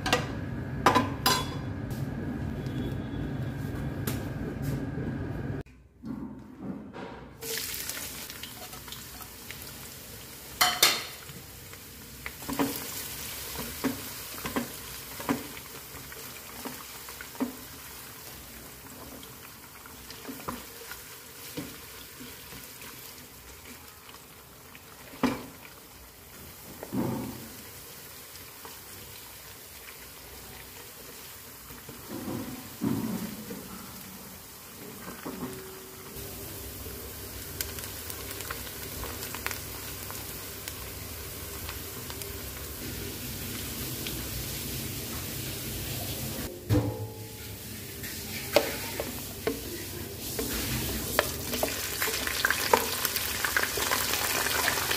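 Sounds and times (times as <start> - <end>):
onions sizzling in oil: 7.4 - 46.5, 47.1 - 54.9.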